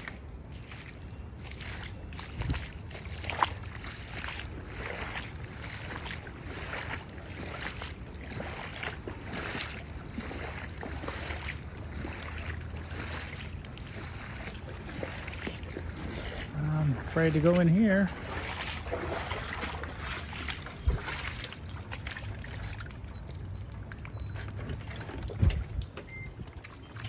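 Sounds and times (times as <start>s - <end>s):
wind rumble on microphone: 0.0s - 17.2s, 18.1s - 27.0s
footsteps sloshing through water: 0.0s - 27.0s.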